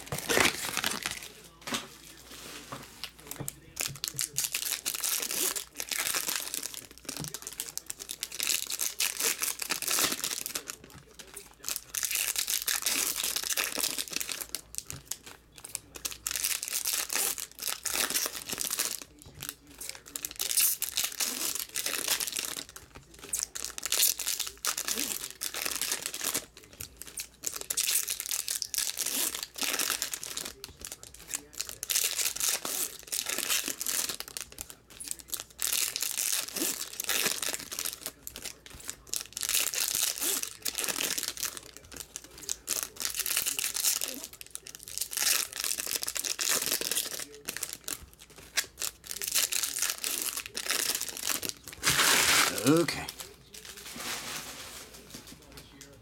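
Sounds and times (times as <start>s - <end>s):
foil wrappers tearing and crinkling: 0.0s - 55.9s.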